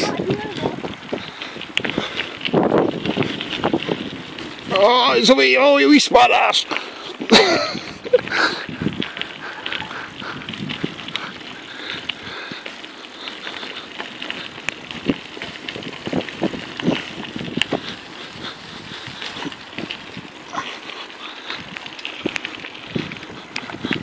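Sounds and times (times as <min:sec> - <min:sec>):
bike rattling over stones: 0:00.0 - 0:24.0
bike tyres crunching on gravel: 0:00.0 - 0:24.0.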